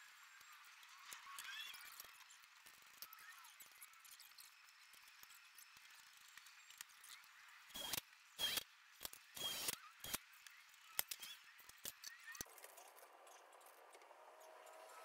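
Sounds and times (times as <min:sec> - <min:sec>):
small metal parts clicking: 0:00.4 - 0:14.0.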